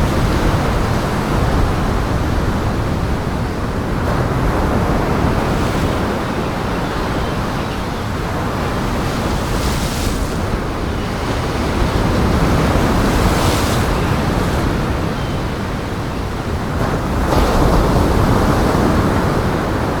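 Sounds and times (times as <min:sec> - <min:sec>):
heavy surf breaking waves: 0:00.0 - 0:20.0
strong wind: 0:00.0 - 0:20.0.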